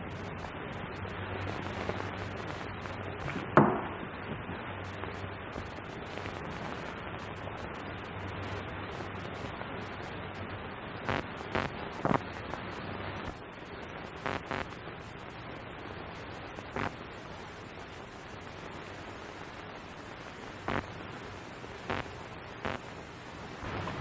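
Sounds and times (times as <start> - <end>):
film soundtrack hiss: 0.0 - 24.0.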